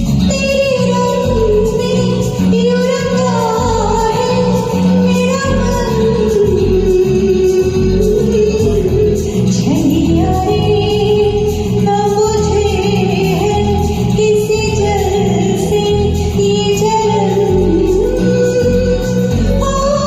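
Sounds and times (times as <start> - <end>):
backing track with steady beat: 0.0 - 20.0
person singing karaoke: 0.0 - 20.0.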